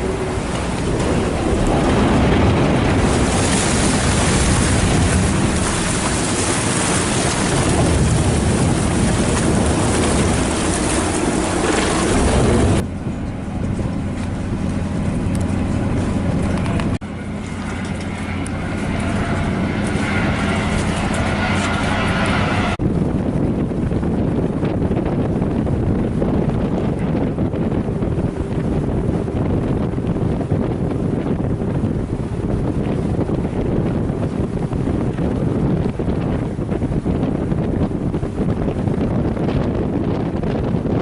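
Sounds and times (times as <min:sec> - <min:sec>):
ferry engine: 0:00.0 - 0:41.0
water noise: 0:00.0 - 0:41.0
wind noise on microphone: 0:00.0 - 0:41.0.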